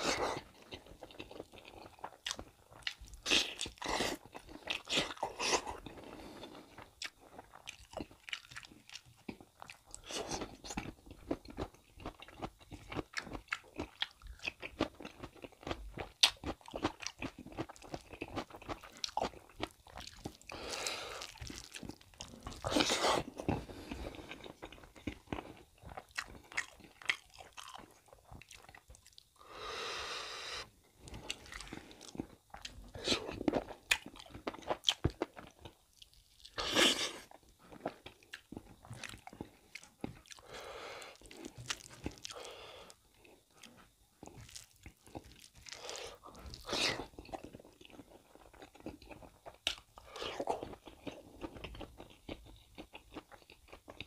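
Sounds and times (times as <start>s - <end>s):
chewing with wet mouth clicks: 0.6s - 6.0s, 6.7s - 20.5s, 21.2s - 29.3s, 31.1s - 36.6s, 37.3s - 40.4s, 43.5s - 54.0s.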